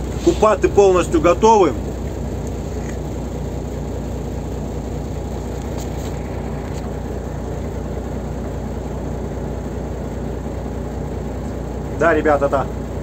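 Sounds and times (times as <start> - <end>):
diesel truck engine droning: 0.0 - 13.0
road noise: 0.0 - 13.0.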